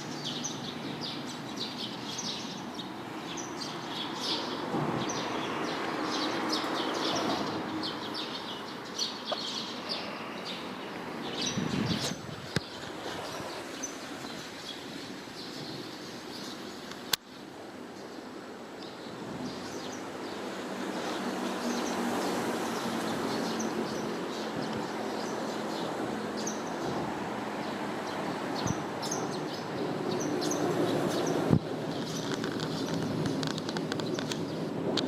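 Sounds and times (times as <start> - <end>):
small birds chirping: 0.0 - 34.8.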